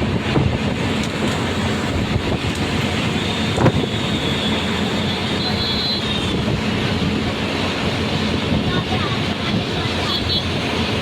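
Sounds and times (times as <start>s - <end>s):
bus road and engine rumble: 0.0s - 11.0s.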